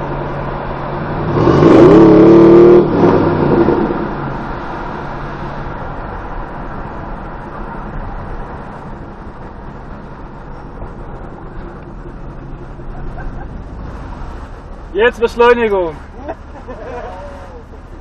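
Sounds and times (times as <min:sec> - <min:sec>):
car engine drone: 0:00.0 - 0:18.0
road noise inside car: 0:00.0 - 0:18.0.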